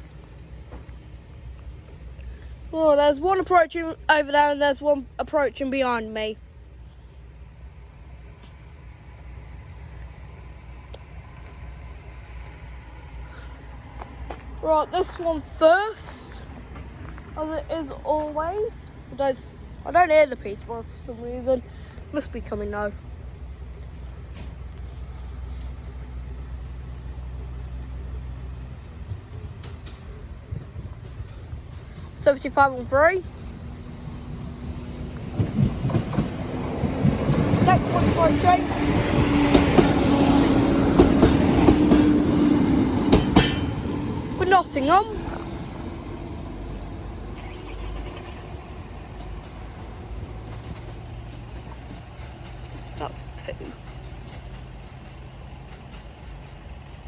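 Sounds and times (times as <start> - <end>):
diesel train engine: 0.0 - 57.0.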